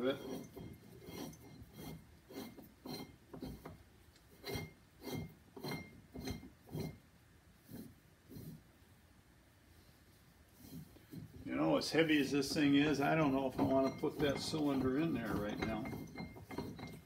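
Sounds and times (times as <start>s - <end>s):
metal scraping on metal: 0.0s - 8.7s, 10.5s - 17.0s.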